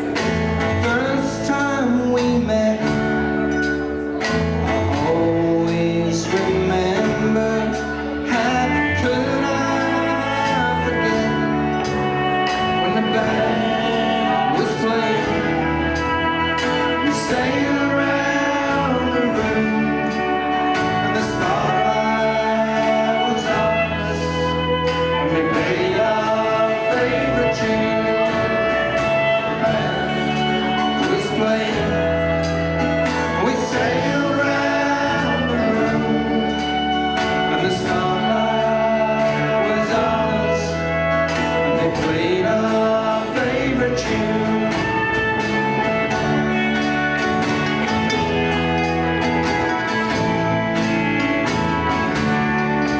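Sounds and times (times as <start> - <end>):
folk band playing waltz: 0.0 - 52.9
person singing: 0.0 - 52.9.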